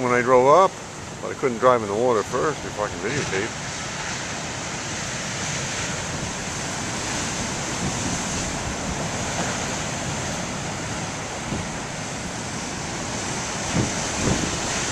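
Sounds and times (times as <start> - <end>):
ocean waves breaking: 0.0 - 14.9.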